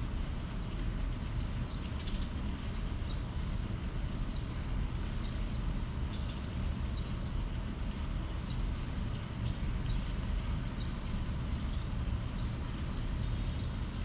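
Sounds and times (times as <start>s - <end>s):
low outdoor rumble: 0.0s - 14.0s
small birds chirping: 0.5s - 7.4s, 8.3s - 14.0s.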